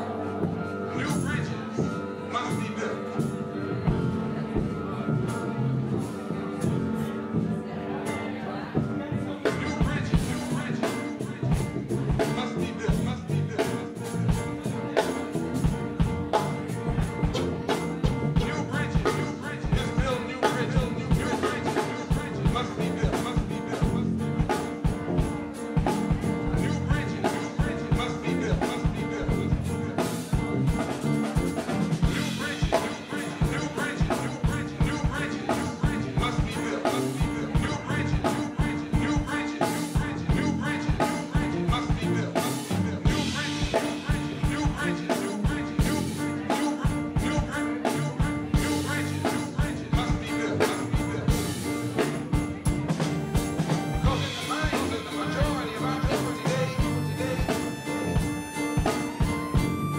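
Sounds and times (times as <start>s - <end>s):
live band playing: 0.0s - 59.9s
busy drum beat: 3.2s - 4.8s, 8.8s - 59.9s.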